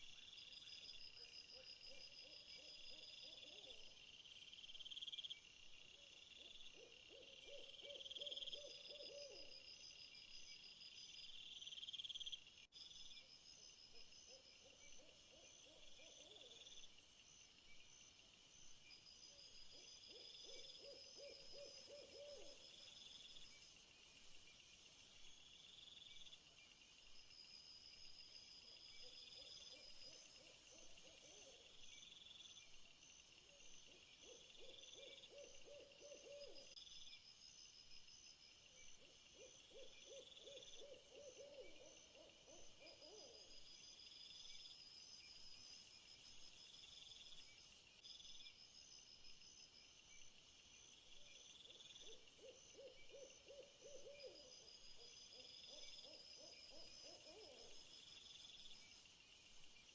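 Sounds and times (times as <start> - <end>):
crickets chirping: 0.0 - 59.9
low insect trill: 0.0 - 59.9.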